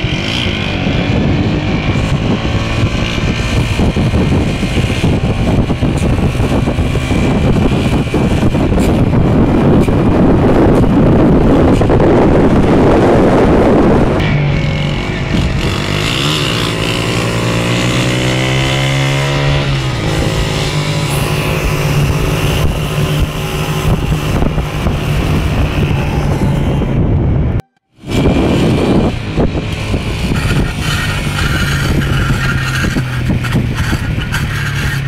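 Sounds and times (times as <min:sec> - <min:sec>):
motorcycle engine revving: 0:00.0 - 0:35.0
noisy rush: 0:00.0 - 0:35.0.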